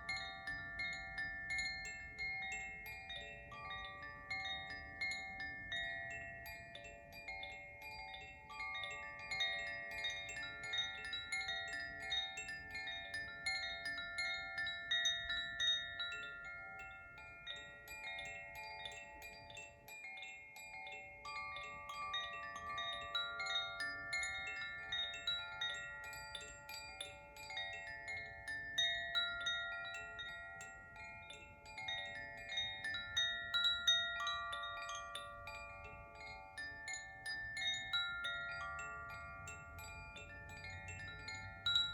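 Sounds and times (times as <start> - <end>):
chimes tinkling: 0.0 - 41.9.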